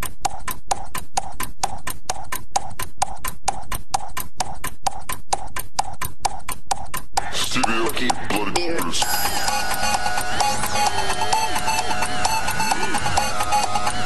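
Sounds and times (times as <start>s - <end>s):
clip-clop percussive clicking: 0.0s - 14.0s.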